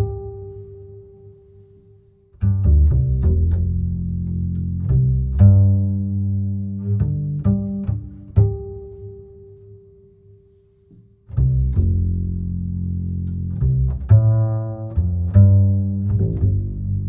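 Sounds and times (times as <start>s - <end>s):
deep plucked bass notes: 0.0s - 1.5s, 2.4s - 9.6s, 11.2s - 17.0s.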